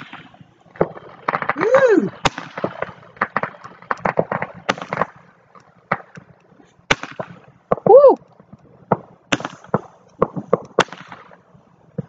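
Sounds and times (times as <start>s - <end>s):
firework pops and cracks: 0.0s - 12.0s.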